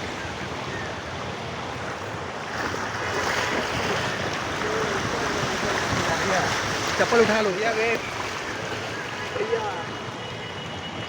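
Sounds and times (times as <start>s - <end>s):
rushing rain and floodwater: 0.0s - 11.0s.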